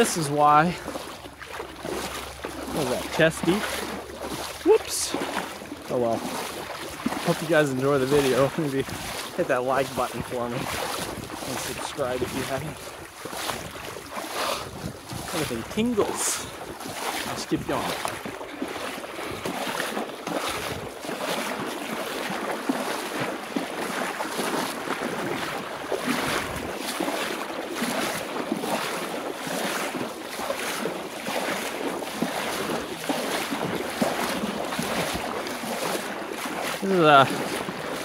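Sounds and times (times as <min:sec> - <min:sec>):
water sloshing and splashing: 0:00.0 - 0:38.0.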